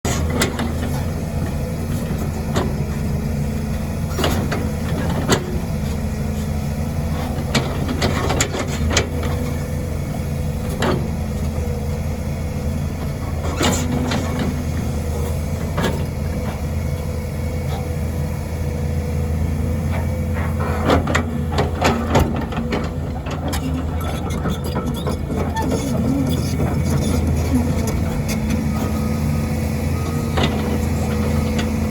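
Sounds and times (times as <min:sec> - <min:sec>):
excavator diesel engine running: 0:00.1 - 0:31.9.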